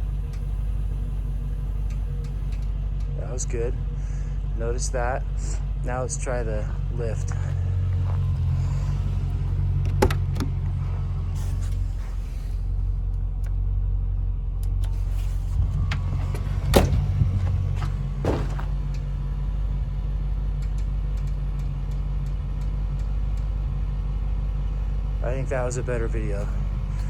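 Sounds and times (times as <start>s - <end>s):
air suspension raising vehicle: 0.0s - 13.4s, 14.6s - 27.0s
car engine idling: 0.0s - 27.0s.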